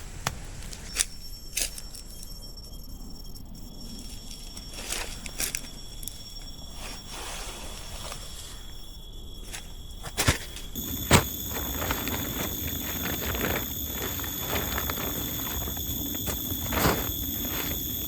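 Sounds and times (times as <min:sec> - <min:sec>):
high-pitched insect calls: 0:00.9 - 0:18.0.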